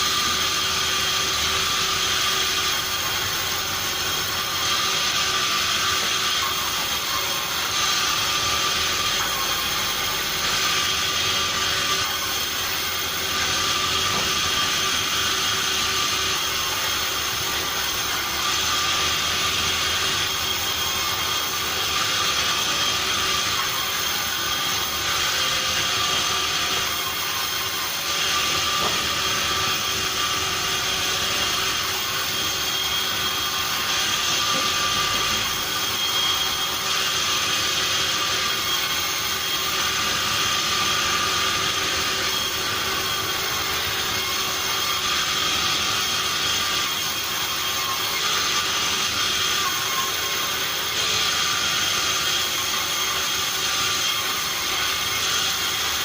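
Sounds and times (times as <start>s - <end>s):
sawmill machinery whining: 0.0s - 56.0s.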